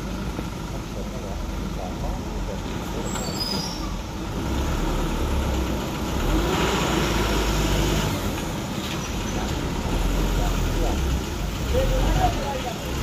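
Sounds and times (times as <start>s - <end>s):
road noise: 0.0s - 13.0s
vehicle engine rumbling: 0.0s - 13.0s.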